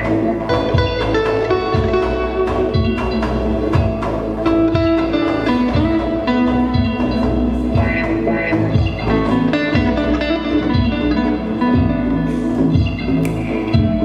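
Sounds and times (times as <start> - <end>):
deep pitch-dropping kick drum: 0.0 - 14.0
drum machine beat: 0.0 - 14.0
gliding electric guitar notes: 0.0 - 14.0.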